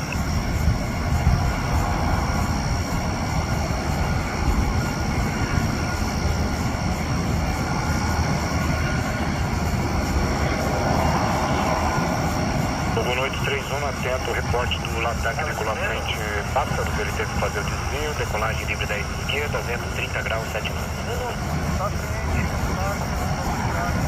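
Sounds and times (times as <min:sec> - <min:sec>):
high jet engine whine: 0:00.0 - 0:24.0
jet engines rumbling: 0:00.0 - 0:24.0.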